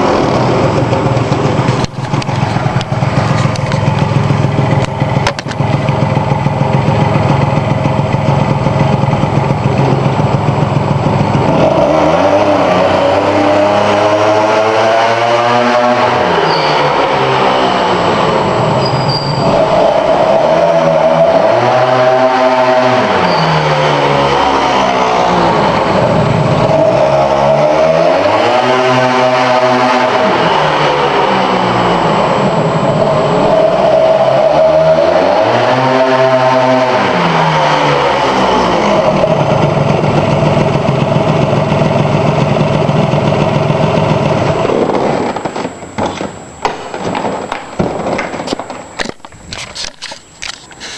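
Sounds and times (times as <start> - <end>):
small engine revving: 0.0 - 46.2.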